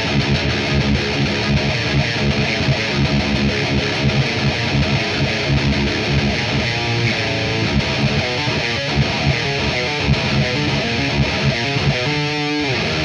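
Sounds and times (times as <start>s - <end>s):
distorted electric guitar riffing: 0.0s - 13.0s.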